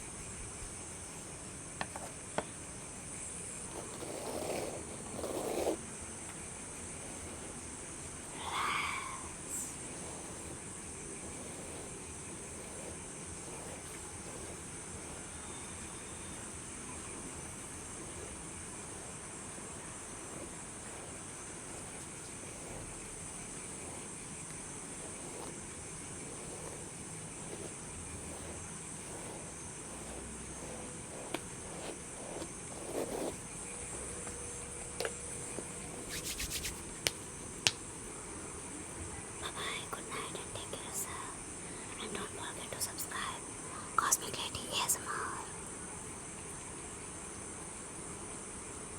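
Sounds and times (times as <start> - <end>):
crickets chirping: 0.0 - 48.9
soft even hiss: 0.0 - 48.9.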